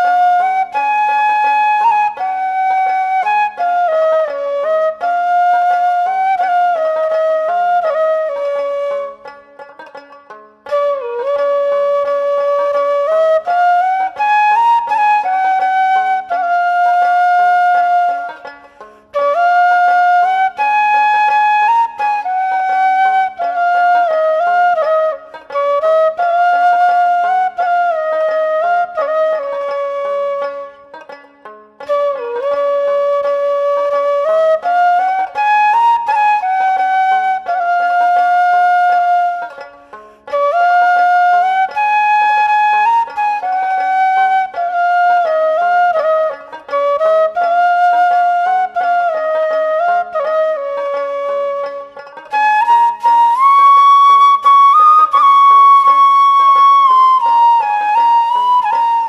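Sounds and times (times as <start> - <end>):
flute slow melody: 0.0 - 9.9, 10.6 - 31.1, 31.8 - 59.0.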